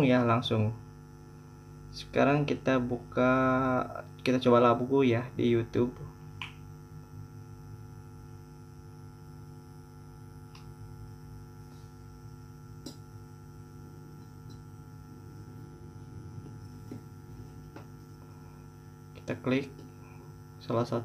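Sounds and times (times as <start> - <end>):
speaker mains hum: 0.0 - 21.0.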